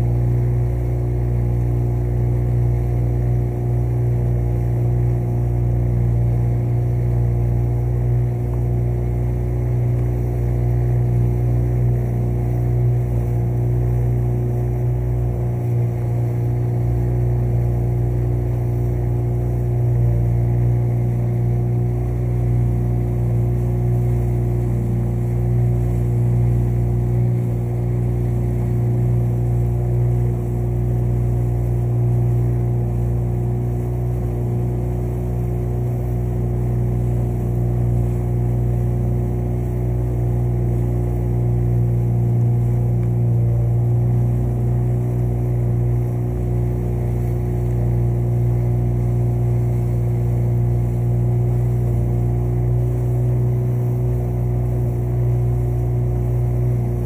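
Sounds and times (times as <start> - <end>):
motorboat engine humming: 0.0 - 57.0.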